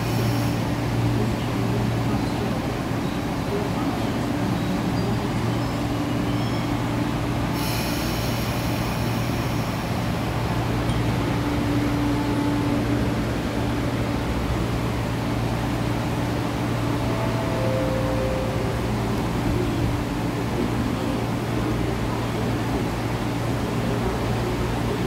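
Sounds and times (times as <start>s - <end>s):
train equipment humming: 0.0s - 25.0s
train whine pulling away: 0.0s - 25.0s.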